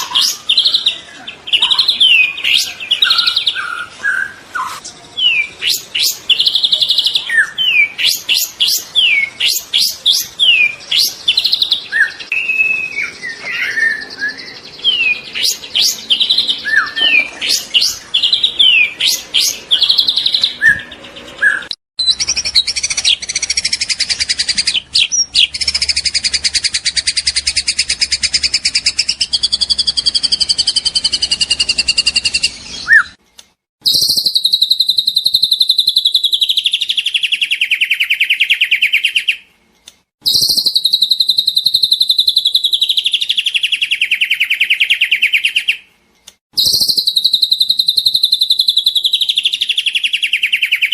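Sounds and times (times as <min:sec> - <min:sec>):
high bird trill: 0:00.0 - 0:33.2, 0:33.8 - 0:39.5, 0:40.2 - 0:45.9, 0:46.6 - 0:50.9
bird whistles and chirps: 0:01.6 - 0:33.2, 0:33.8 - 0:39.4, 0:40.2 - 0:45.8, 0:46.6 - 0:50.9.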